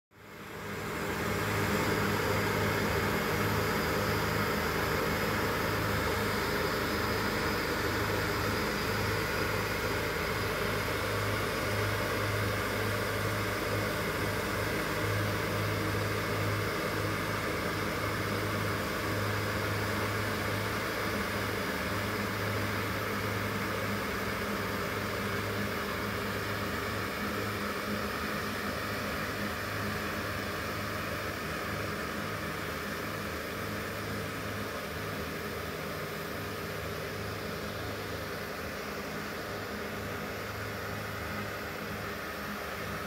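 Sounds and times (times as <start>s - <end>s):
low machine hum: 0.2s - 43.0s.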